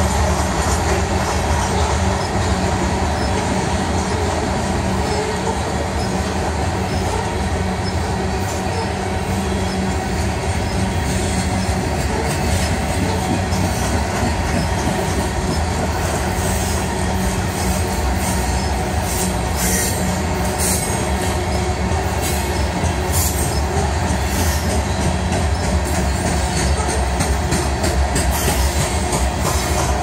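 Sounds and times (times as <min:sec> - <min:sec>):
steel wheels rumbling on rail: 0:00.0 - 0:30.0
train cars clanking: 0:00.0 - 0:30.0.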